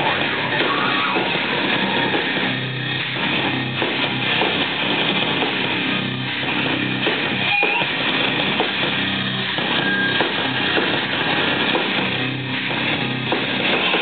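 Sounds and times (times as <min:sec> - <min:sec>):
bass guitar: 0:00.0 - 0:14.0
drum kit: 0:00.0 - 0:14.0
electric guitars: 0:00.0 - 0:14.0.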